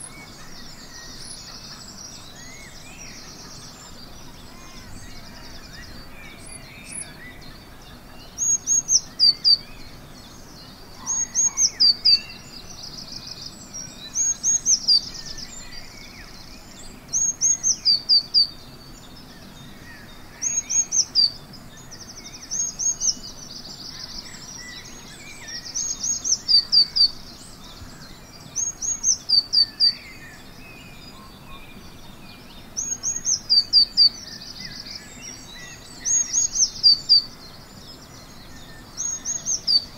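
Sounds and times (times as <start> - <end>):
faint birds calling: 0.0 - 39.9.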